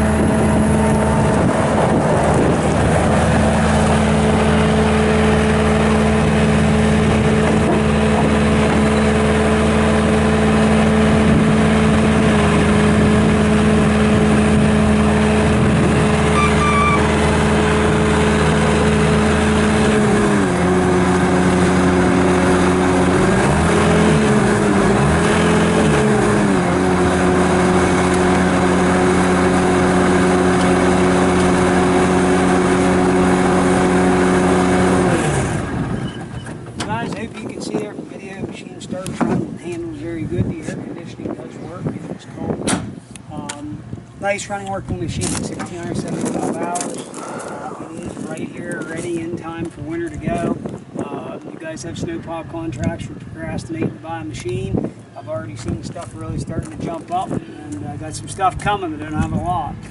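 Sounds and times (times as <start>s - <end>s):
loader diesel engine running: 0.0s - 59.9s.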